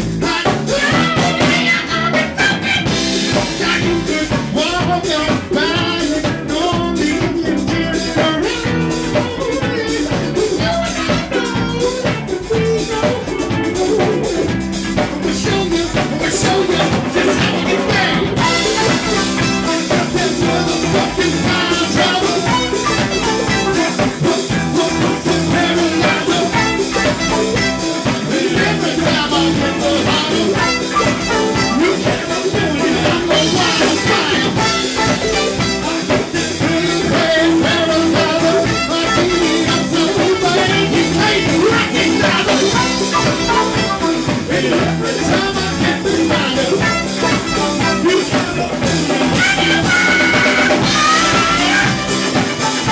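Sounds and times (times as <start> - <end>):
drum kit beat: 0.0 - 52.9
live rock band playing: 0.0 - 52.9
person singing: 0.0 - 52.9.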